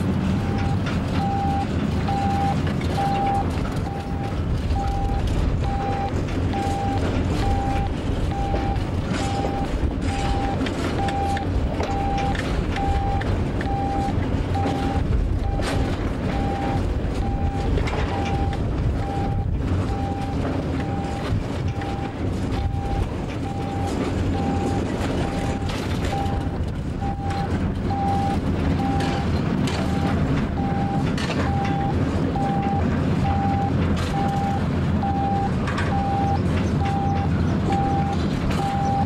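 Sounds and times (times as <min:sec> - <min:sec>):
train rumble and wheel noise: 0:00.0 - 0:39.0.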